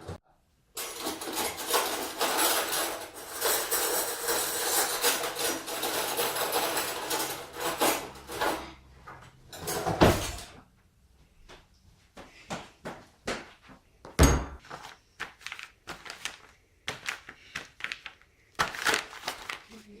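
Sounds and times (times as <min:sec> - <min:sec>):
objects clattering and knocking: 0:00.0 - 0:10.7, 0:14.2 - 0:19.8.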